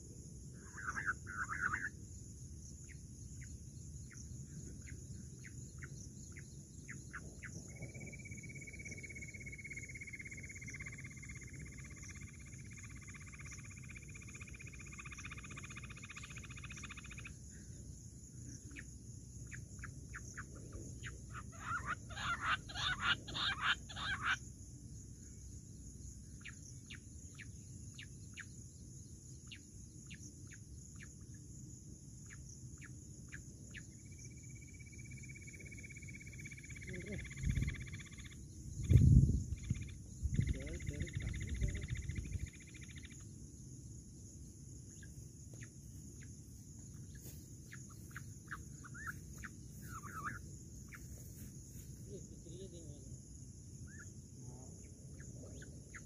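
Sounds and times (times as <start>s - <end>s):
steady high insect hiss: 0.0s - 56.0s.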